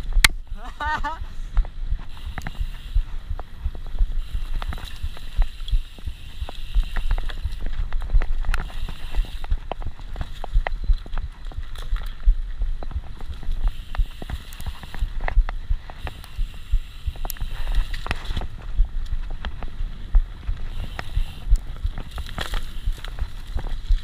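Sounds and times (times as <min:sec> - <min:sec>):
mountain bike rumbling on dirt trail: 0:00.0 - 0:24.0
bike knocks and rattles: 0:01.6 - 0:24.0.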